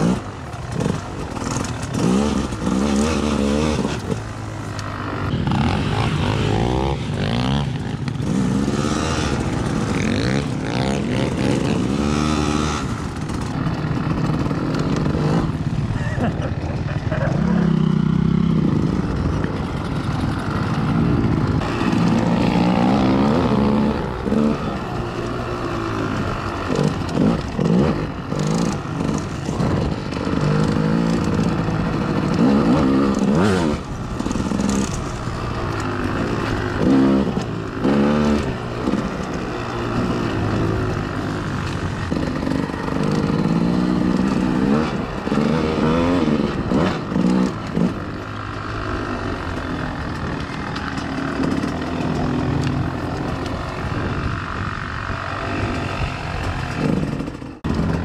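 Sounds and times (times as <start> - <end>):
off-road vehicle engine revving: 0.0 - 16.4, 17.1 - 58.0.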